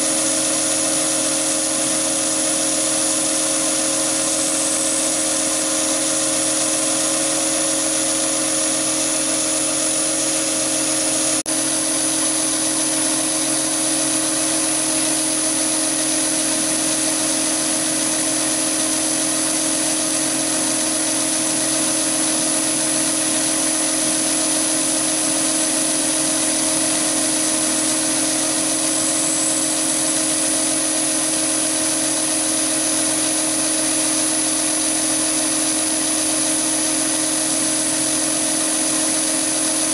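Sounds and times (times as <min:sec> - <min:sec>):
boring bar cutting steel: 0:00.0 - 0:39.9
lathe motor and gear whine: 0:00.0 - 0:39.9.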